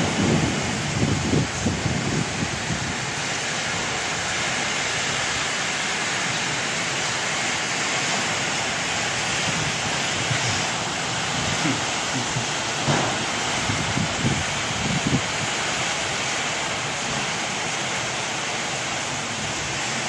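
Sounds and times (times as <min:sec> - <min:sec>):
heavy rain on pavement: 0:00.0 - 0:20.0.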